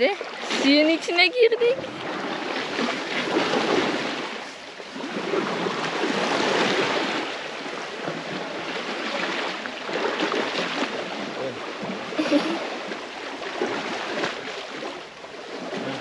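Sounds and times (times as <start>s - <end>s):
water sloshing around wading elephant: 0.0s - 16.0s.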